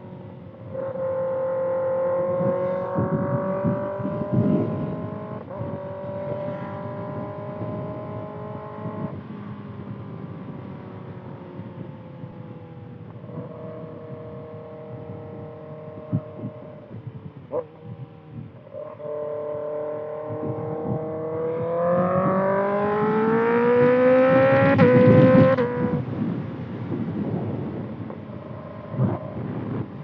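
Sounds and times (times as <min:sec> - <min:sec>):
wind buffeting microphone: 0:00.0 - 0:30.0
motorcycle engine revving: 0:00.1 - 0:30.0.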